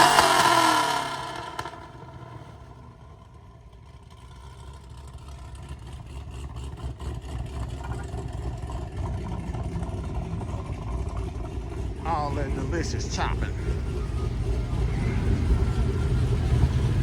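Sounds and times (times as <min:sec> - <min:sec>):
low engine rumble: 0:01.2 - 0:17.0.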